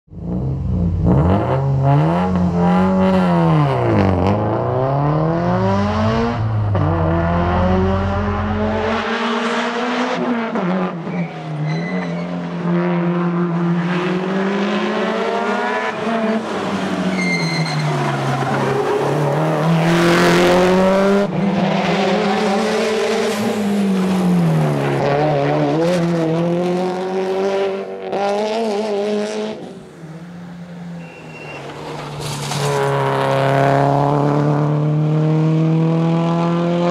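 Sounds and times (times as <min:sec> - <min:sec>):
rally car engine accelerating: 0:00.1 - 0:36.9.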